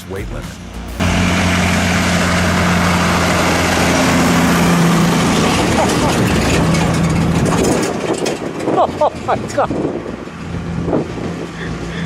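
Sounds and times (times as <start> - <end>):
heavy truck engine droning: 0.0 - 12.0.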